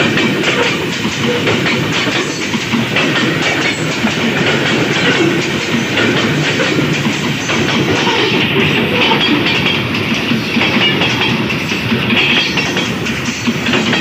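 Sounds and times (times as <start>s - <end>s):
freight train wheels clattering on rails: 0.0s - 14.0s.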